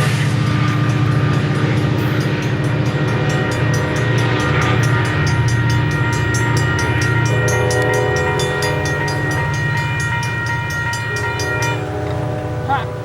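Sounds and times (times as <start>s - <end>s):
train horn chord: 0.0s - 13.0s
train rumble: 0.0s - 13.0s.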